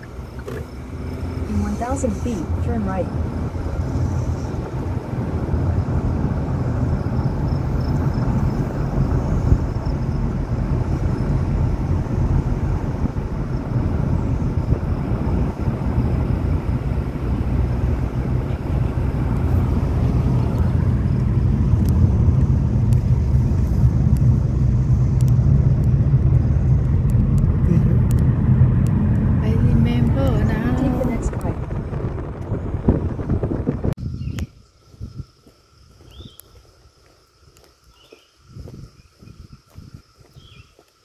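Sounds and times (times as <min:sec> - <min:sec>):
car tyres and engine rumble: 0:00.0 - 0:41.0.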